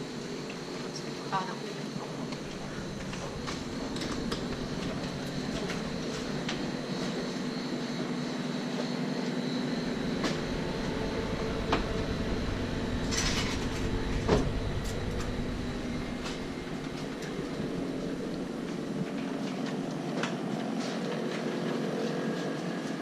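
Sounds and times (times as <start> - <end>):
train running hum: 0.0 - 23.0.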